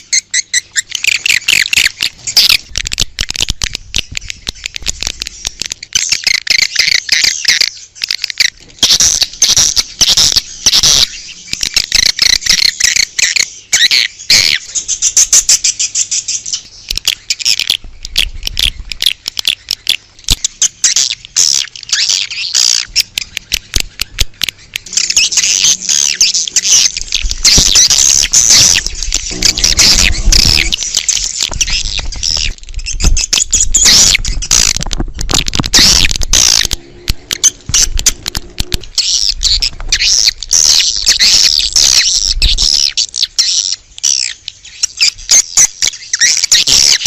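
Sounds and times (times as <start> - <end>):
swiftlets chirping and twittering: 0.0 - 47.0.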